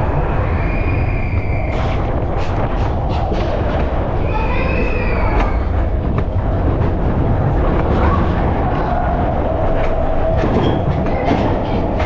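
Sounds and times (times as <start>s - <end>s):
roller coaster wheels rumbling: 0.0s - 12.0s.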